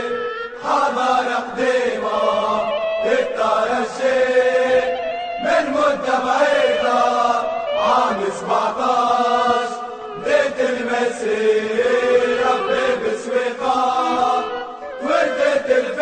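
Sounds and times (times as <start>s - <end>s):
crowd chanting a song: 0.0s - 16.0s.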